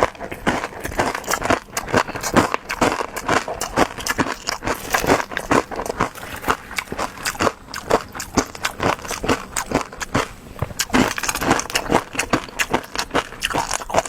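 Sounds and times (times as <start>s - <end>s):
wet chewing and mouth smacks: 0.0s - 14.0s.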